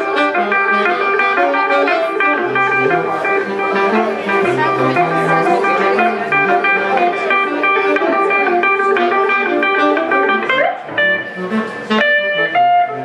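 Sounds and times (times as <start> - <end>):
electric guitar: 0.0 - 13.0
saxophone: 0.0 - 13.0.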